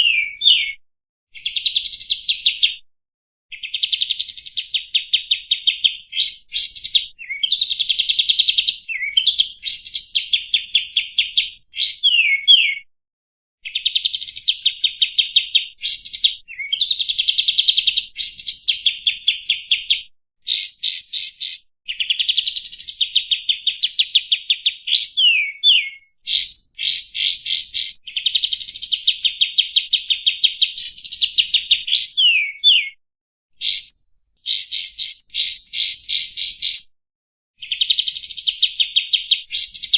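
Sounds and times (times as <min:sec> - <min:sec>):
songbird trilling and whistling: 0:00.0 - 0:00.8, 0:01.4 - 0:02.8, 0:03.5 - 0:12.9, 0:13.6 - 0:33.0, 0:33.6 - 0:36.9, 0:37.6 - 0:39.9.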